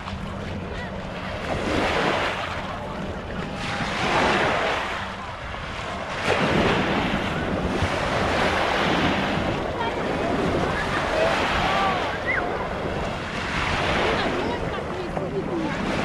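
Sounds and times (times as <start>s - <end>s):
sea waves washing on sand: 0.0s - 16.0s
wind rumbling on microphone: 0.0s - 16.0s.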